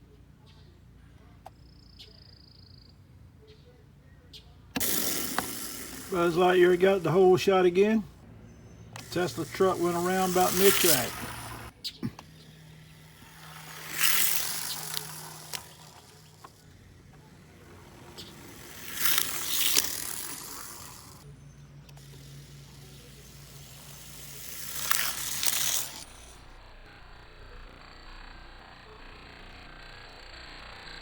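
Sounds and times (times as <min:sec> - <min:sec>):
toy car motors whirring past: 0:04.8 - 0:31.0.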